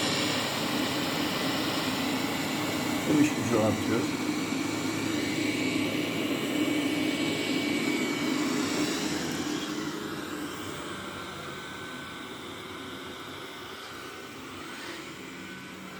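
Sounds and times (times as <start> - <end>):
robot vacuum whirring: 0.0 - 15.9.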